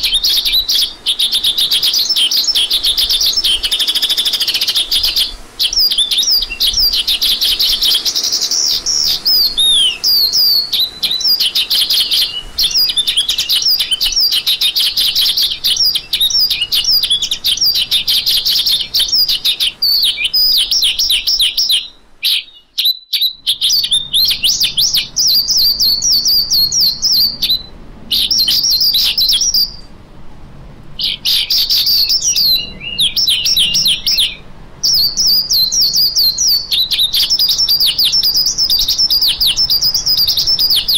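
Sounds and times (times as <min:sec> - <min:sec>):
lark singing chirps and trills: 0:00.0 - 0:29.9, 0:31.0 - 0:40.9.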